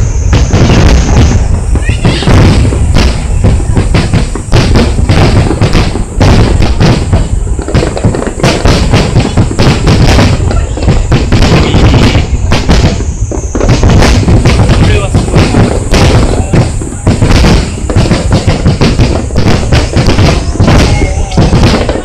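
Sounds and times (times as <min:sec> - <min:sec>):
fireworks booms and crackling bangs: 0:00.0 - 0:22.0.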